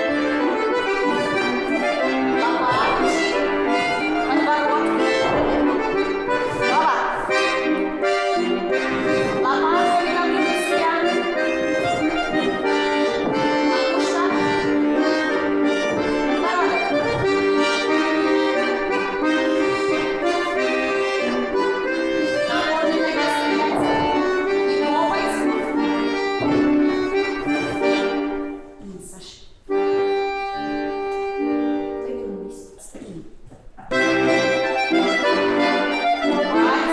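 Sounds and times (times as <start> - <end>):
accordion playing folk-dance tune: 0.0 - 29.0, 29.6 - 32.8, 33.8 - 36.9.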